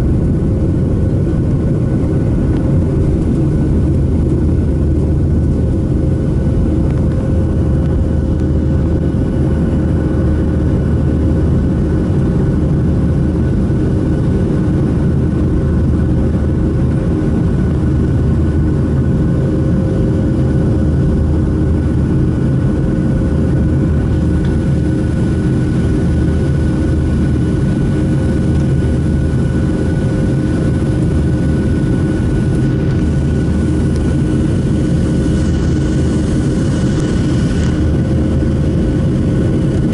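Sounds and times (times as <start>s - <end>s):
jet engines from inside cabin: 0.0s - 39.9s.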